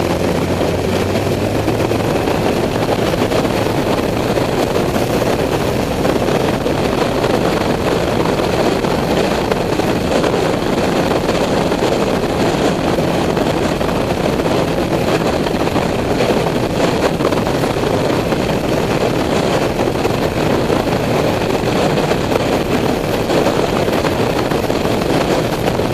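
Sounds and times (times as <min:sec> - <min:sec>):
motorcycle engine: 0:00.0 - 0:25.9
wind noise: 0:00.0 - 0:25.9.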